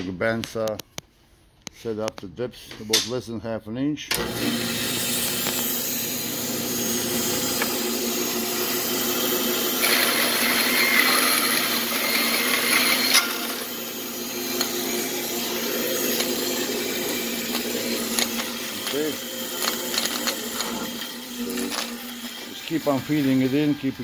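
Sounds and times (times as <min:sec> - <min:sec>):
band saw cutting wood: 0:04.1 - 0:24.0.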